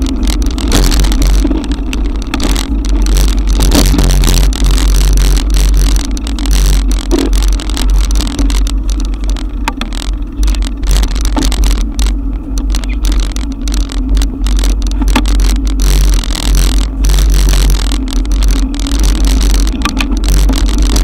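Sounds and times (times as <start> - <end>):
crackles of rain and road noise: 0.0 - 21.0.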